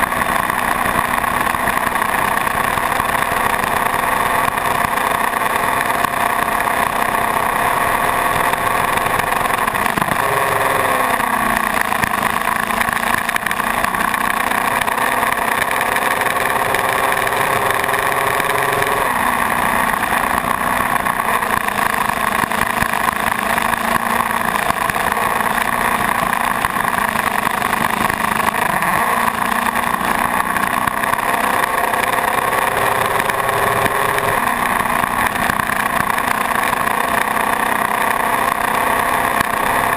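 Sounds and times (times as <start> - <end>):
motorcycle engine at road speed: 0.0 - 39.9
wind and road noise: 0.0 - 39.9.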